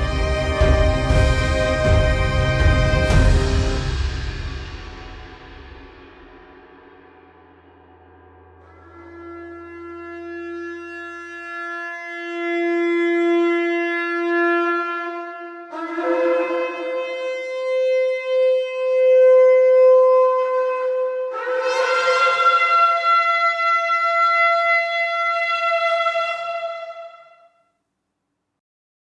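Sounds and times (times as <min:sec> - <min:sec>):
ram's horn blasts: 0:00.0 - 0:05.8, 0:08.6 - 0:27.6.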